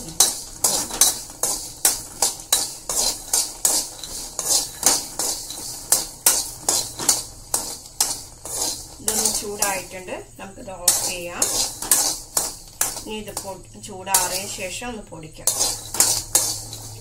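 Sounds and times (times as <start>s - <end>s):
steel ladle scraping metal pan: 0.0s - 17.0s.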